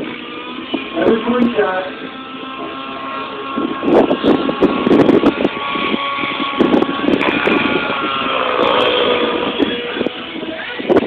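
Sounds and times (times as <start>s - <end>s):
model helicopter whine: 0.0s - 11.0s.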